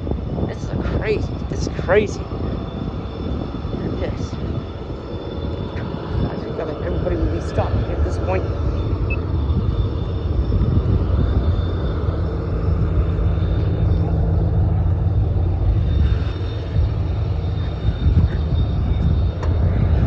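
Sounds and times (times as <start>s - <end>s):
locomotive low rumble: 0.0s - 20.0s.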